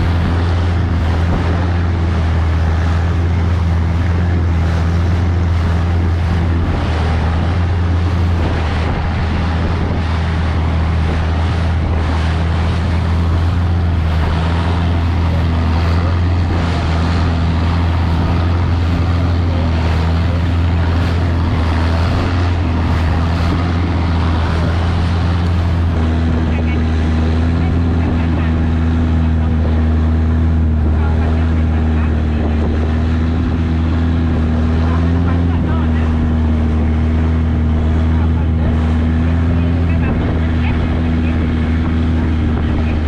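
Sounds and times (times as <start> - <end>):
boat engine droning: 0.0 - 43.0
wind and water rushing: 0.0 - 43.0.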